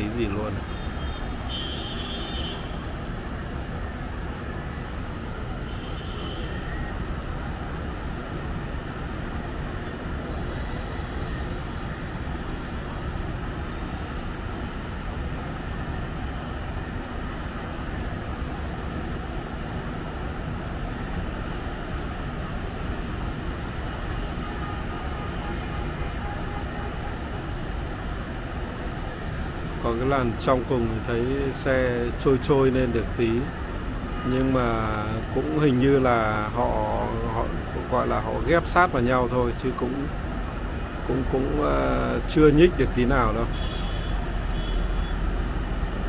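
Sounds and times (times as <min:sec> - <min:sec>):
road traffic hum: 0:00.0 - 0:46.0.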